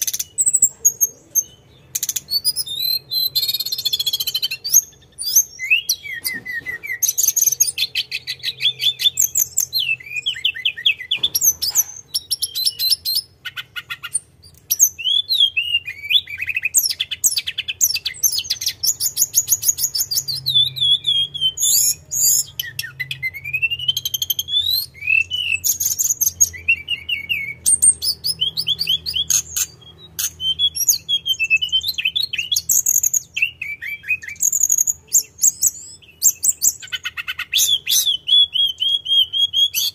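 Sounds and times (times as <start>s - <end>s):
songbird singing trills and whistles: 0.0s - 39.9s.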